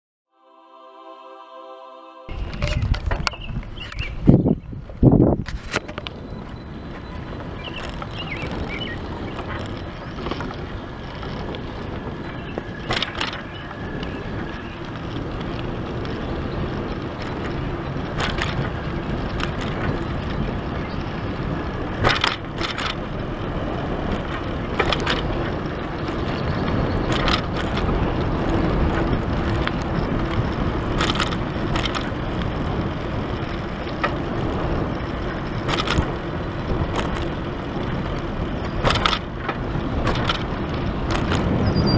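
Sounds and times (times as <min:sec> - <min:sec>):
wind: 0:00.4 - 0:41.9
bicycle tyres rumbling: 0:02.3 - 0:41.9
bike clicking and rattling: 0:02.3 - 0:41.9.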